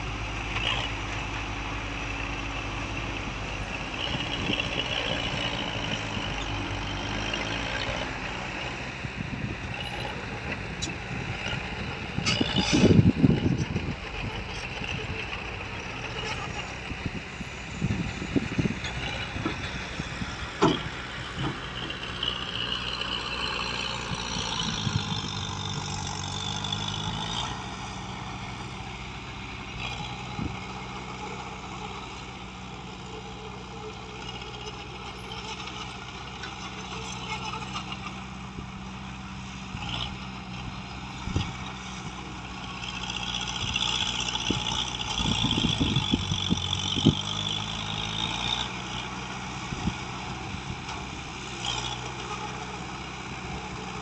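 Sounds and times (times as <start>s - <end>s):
heavy machine diesel engine: 0.0s - 54.0s.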